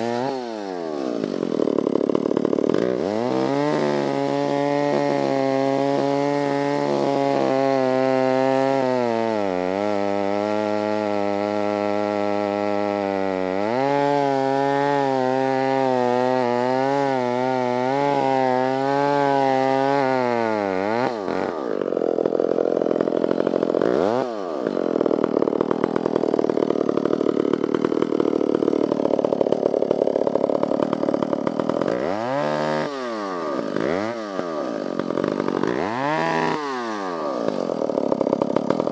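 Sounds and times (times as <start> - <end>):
chainsaw cutting wood: 0.0 - 38.9
chainsaw running at high revs: 0.0 - 38.9.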